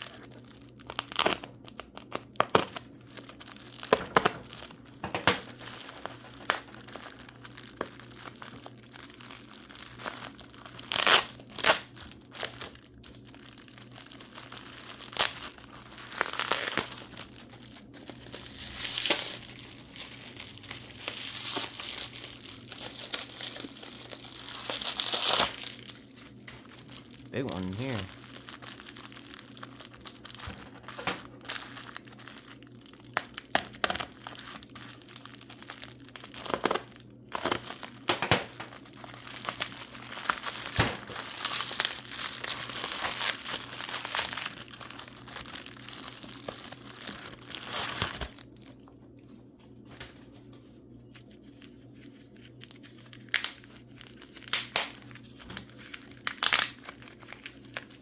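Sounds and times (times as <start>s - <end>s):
paper crumpling and tearing: 0.0s - 48.8s, 51.1s - 58.0s.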